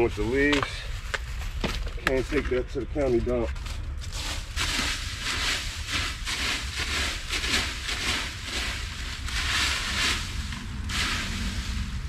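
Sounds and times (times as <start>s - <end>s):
dry leaves rustling and crunching: 0.0s - 2.4s, 3.0s - 12.0s
deep rumble: 0.0s - 12.0s.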